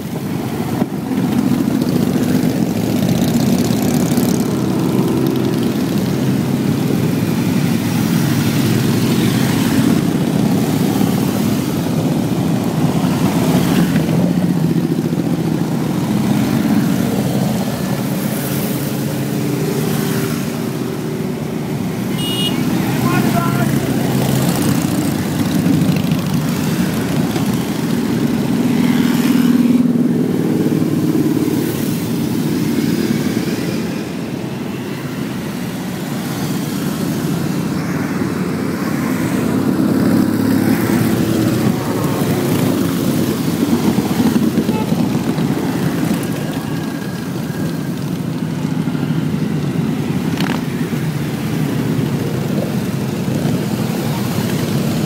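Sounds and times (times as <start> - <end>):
road and vehicle rumble: 0.0 - 55.0.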